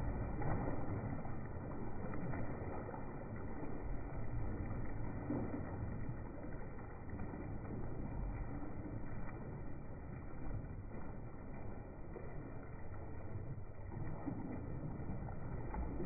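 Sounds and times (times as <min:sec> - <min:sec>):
slowed water deep muffled rumble: 0:00.0 - 0:16.0.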